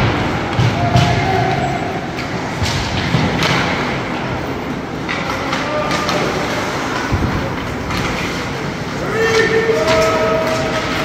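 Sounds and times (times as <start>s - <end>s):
crowd and rink din: 0.0s - 11.0s
hockey sticks striking puck: 0.0s - 11.0s
skates scraping ice: 0.0s - 11.0s.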